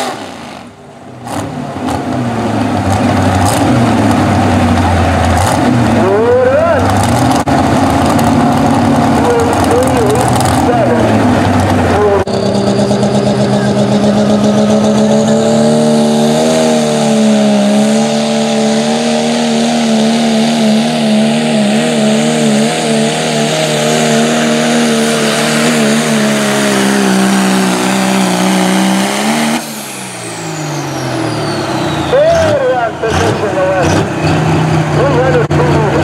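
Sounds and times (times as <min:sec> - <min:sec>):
diesel engine revving high: 0:00.0 - 0:36.0.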